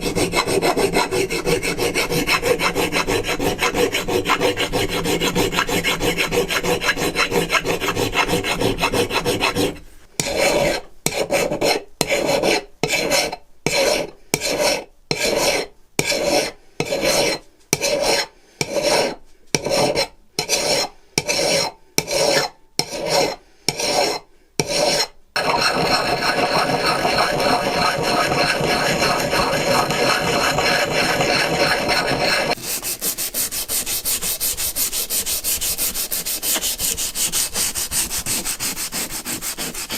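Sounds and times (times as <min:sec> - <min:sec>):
hand file scraping: 0:00.0 - 0:39.9.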